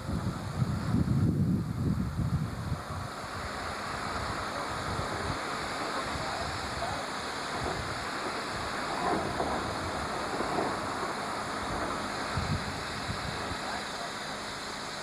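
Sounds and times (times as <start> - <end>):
steam locomotive rushing hiss: 0.0 - 15.0.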